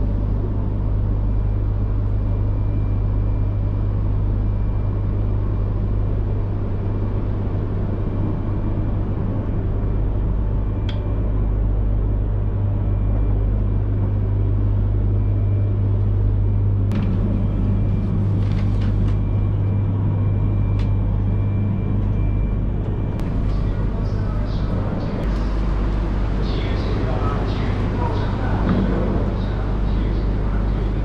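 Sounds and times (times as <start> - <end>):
train interior rumble and hum: 0.0 - 31.0.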